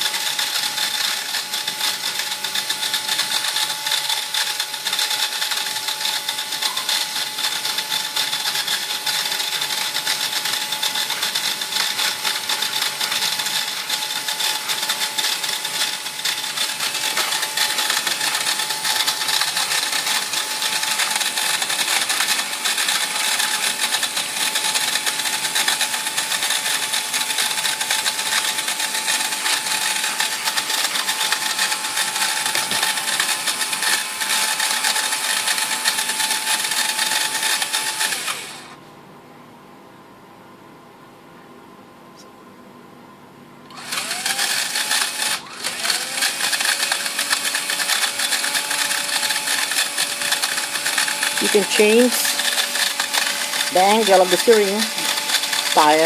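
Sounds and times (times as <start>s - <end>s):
vacuum cleaner motor whining: 0.0s - 38.8s, 43.7s - 56.0s.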